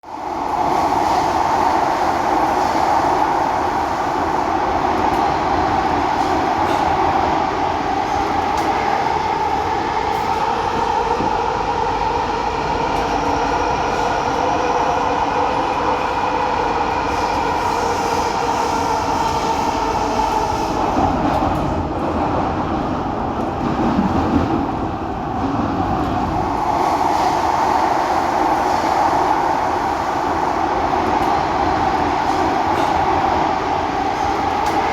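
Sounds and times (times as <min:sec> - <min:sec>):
train carriage rumbling on rails: 0:00.0 - 0:34.9.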